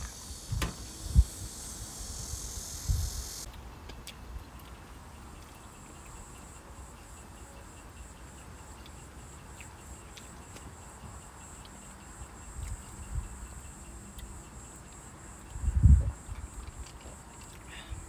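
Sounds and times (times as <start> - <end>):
insects chirring: 0.0 - 3.5, 5.0 - 18.0.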